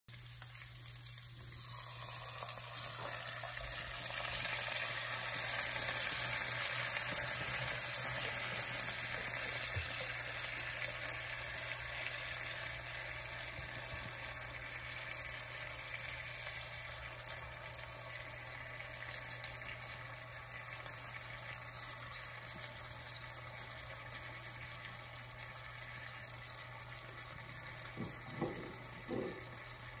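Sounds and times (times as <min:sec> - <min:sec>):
meat sizzling in a pan: 0:00.1 - 0:30.0
sauce pouring: 0:00.1 - 0:30.0.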